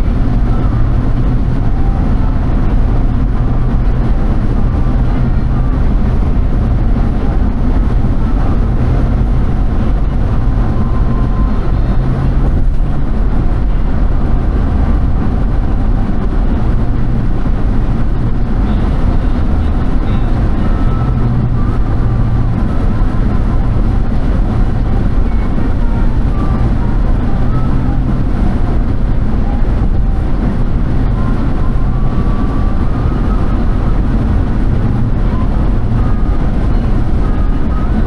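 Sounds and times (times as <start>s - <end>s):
low hum: 0.0s - 38.0s
moving vehicle noise: 0.0s - 38.0s.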